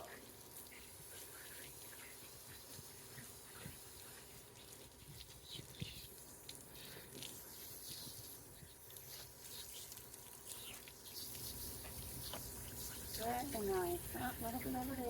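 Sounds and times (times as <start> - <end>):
shower spray hissing on wet fur: 0.0 - 15.0.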